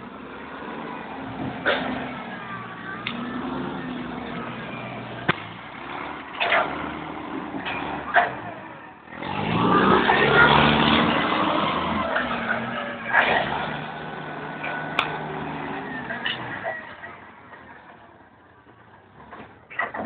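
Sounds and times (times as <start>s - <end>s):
forklift engine revving: 0.0s - 18.2s.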